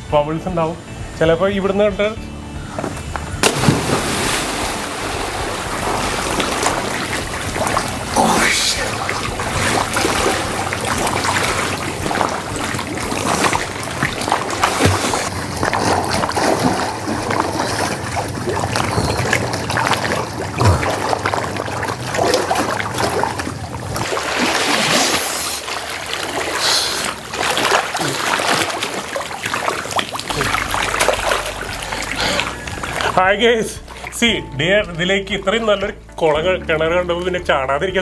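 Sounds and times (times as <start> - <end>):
water splashing and sloshing: 2.7 - 38.0.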